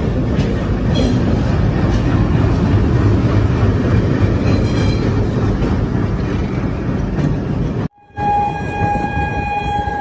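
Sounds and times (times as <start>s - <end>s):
locomotive rumbling past: 0.0s - 10.0s.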